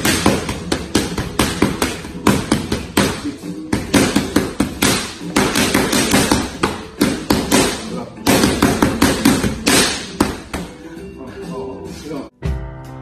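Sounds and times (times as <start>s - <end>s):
boxing gloves slapping focus mitts: 0.0s - 10.8s.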